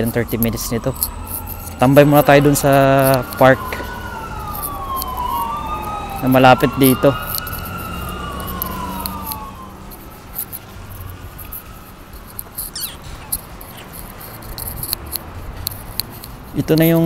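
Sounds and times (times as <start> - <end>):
emergency siren wailing: 0.0 - 17.0
light scattered ticks: 0.0 - 17.0.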